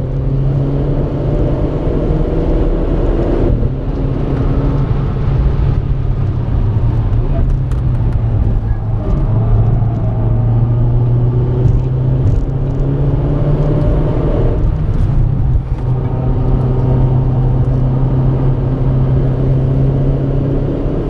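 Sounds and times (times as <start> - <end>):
car engine running hard: 0.0 - 21.0
road and tyre noise: 0.0 - 21.0.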